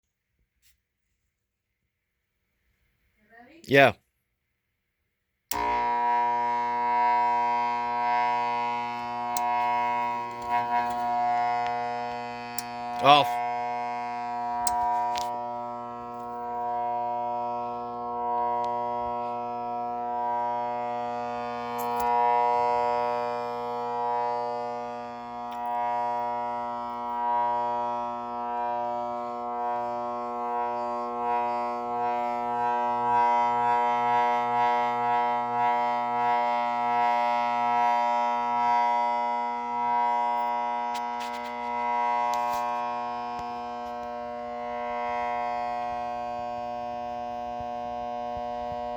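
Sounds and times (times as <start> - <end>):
faulty electric fan motor humming: 5.5 - 48.9.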